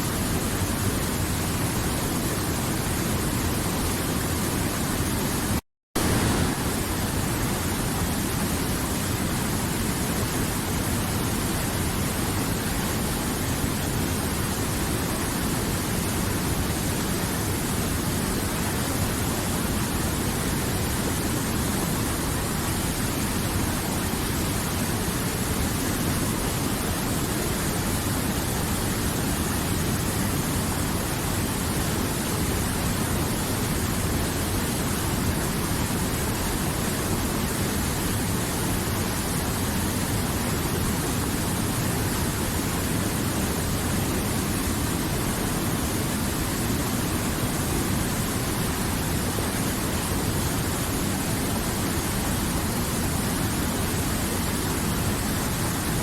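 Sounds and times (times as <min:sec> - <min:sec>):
river water flowing: 0:06.0 - 0:56.0.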